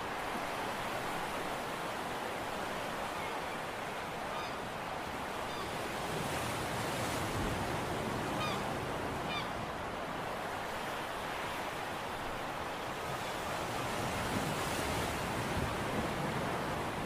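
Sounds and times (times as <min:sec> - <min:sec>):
sea waves: 0:00.0 - 0:17.0.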